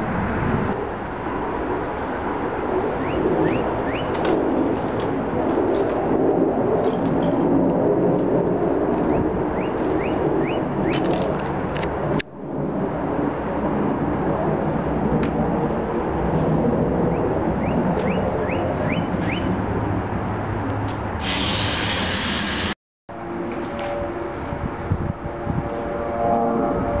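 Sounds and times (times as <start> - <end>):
jet airliner flying overhead: 0.0 - 27.0.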